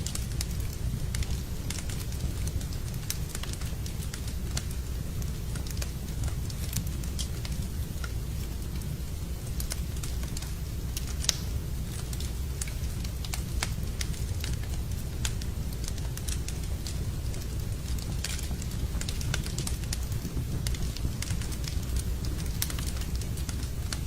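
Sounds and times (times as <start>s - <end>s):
low rumble of fire: 0.0s - 24.0s
sharp pops of fire: 0.0s - 24.0s
wood fire crackling: 0.0s - 24.0s.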